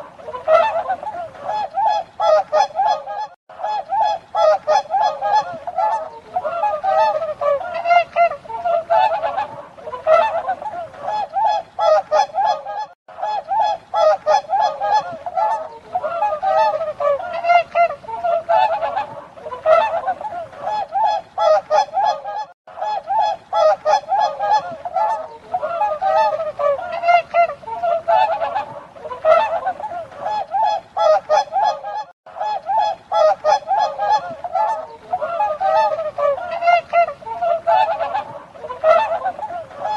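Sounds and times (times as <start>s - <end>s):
swans honking: 0.0s - 39.9s.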